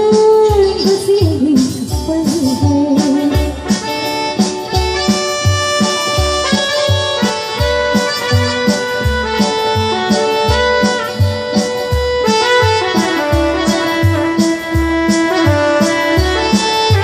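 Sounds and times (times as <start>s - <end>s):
reedy keyboard melody: 0.0s - 17.0s
tabla: 0.0s - 17.0s
steady low beat: 3.4s - 17.0s.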